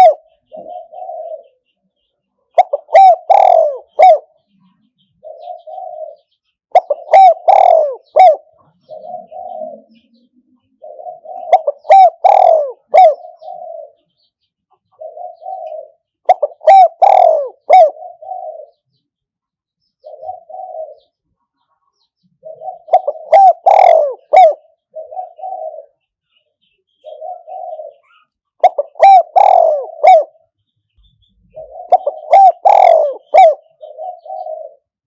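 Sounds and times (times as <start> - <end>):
dove cooing: 0.0 - 1.7, 2.5 - 4.5, 5.2 - 19.0, 20.0 - 21.2, 22.4 - 26.1, 27.0 - 30.6, 31.3 - 35.0.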